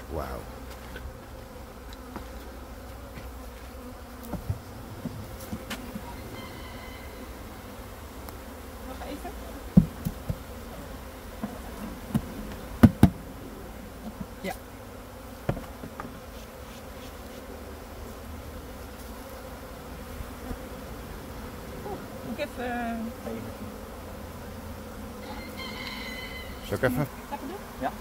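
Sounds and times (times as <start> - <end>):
bee swarm buzzing: 0.0 - 28.0.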